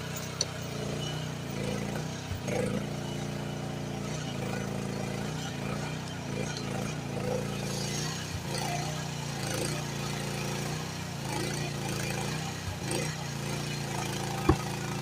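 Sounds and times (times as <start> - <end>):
mini excavator engine running: 0.0 - 15.0.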